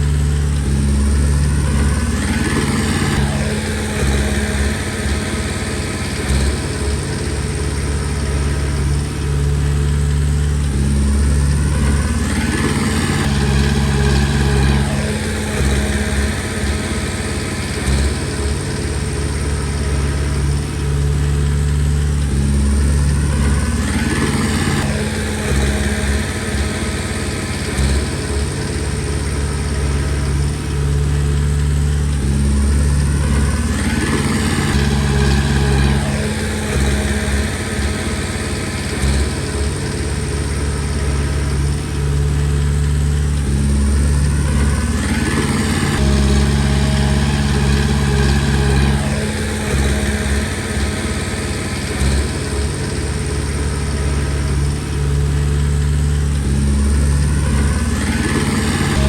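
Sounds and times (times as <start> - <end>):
bulldozer diesel engine working: 0.0 - 59.0.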